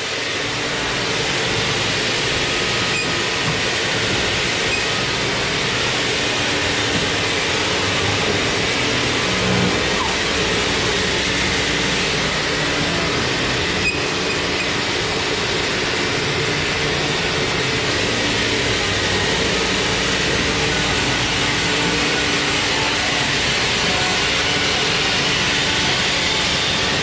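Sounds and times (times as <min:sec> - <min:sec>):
sawmill machinery running: 0:00.0 - 0:27.0.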